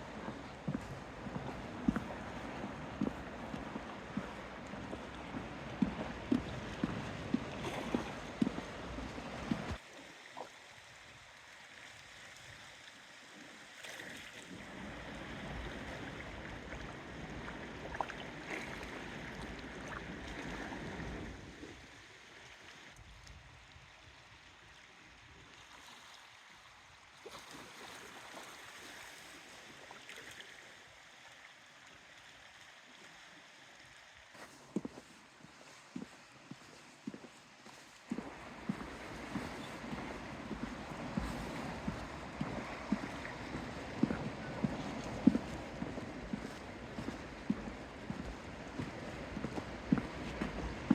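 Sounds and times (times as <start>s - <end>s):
water washing at shore: 0.0s - 50.9s
wind: 0.0s - 50.9s.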